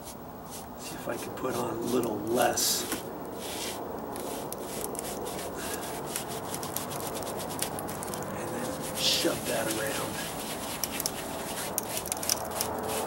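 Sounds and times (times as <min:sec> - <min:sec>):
brush scrubbing rough stucco: 0:00.0 - 0:13.0.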